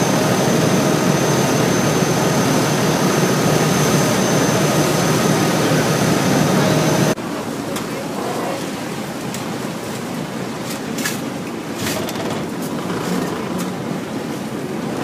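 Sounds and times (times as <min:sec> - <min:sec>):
boat engine: 0:00.0 - 0:15.0
water rushing along hull: 0:00.0 - 0:15.0.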